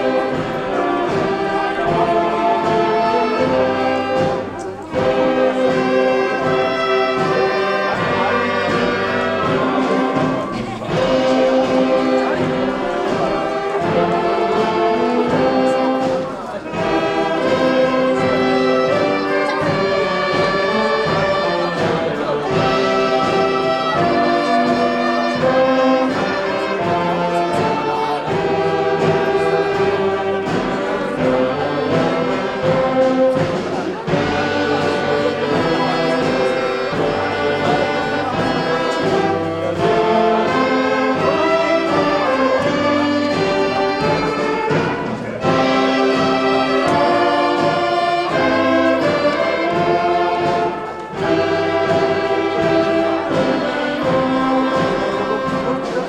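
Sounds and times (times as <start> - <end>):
wind band playing held chords: 0.0 - 56.0.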